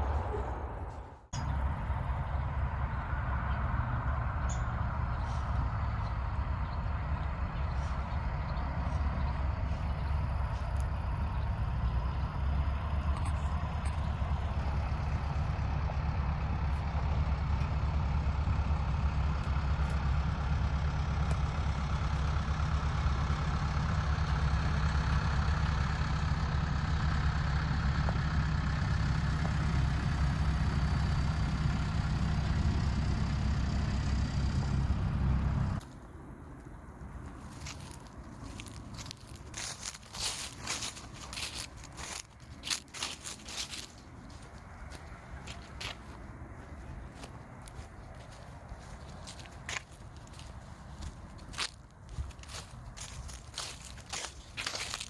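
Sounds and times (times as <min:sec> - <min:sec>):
moving vehicle rumble: 0:00.0 - 0:55.0.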